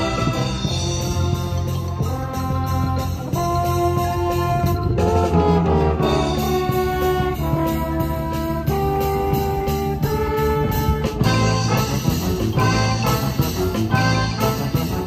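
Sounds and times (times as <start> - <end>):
drums keeping a beat: 0.0 - 15.0
trumpets and trombones: 0.0 - 15.0.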